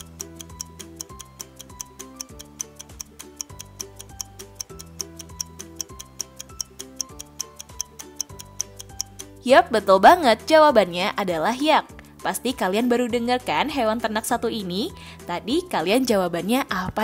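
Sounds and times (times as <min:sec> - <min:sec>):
timer ticking: 0:00.0 - 0:16.4.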